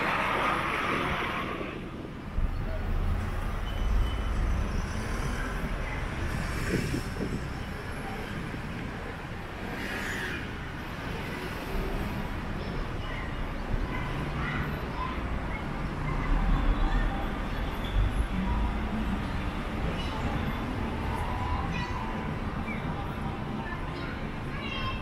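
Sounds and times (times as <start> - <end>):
street hum: 0.0 - 25.0.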